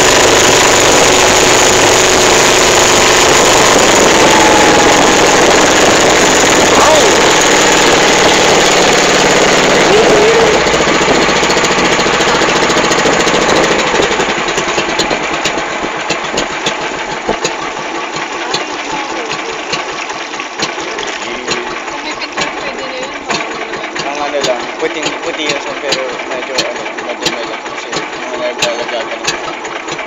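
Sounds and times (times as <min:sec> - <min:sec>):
boat engine running: 0:00.0 - 0:30.0
irregular engine ticking: 0:00.0 - 0:30.0.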